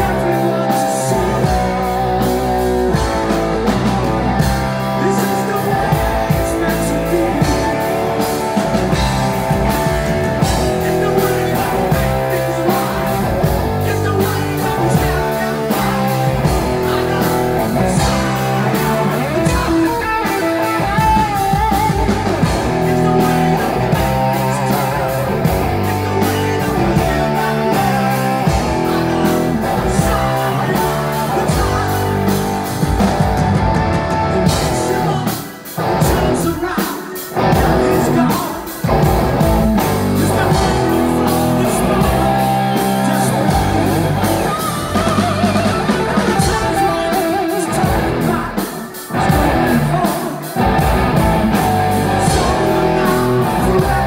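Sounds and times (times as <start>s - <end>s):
hard rock band playing: 0.0s - 54.0s
man singing: 0.0s - 54.0s.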